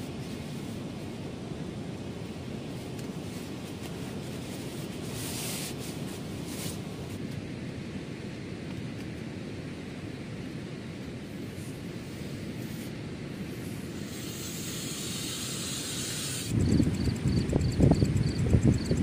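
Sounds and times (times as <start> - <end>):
strong wind: 0.0 - 19.0.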